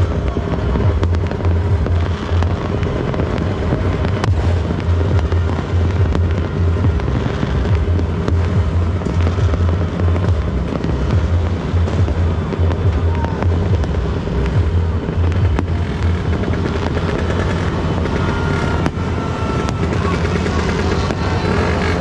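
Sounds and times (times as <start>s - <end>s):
firecracker bangs: 0.0s - 22.0s
fireworks crackling: 0.0s - 22.0s
music with heavy pulsing bass: 0.0s - 22.0s.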